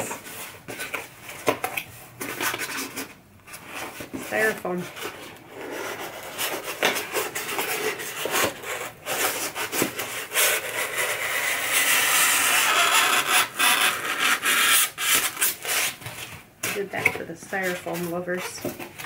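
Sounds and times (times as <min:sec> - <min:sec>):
styrofoam scraping cardboard: 0:02.2 - 0:19.0.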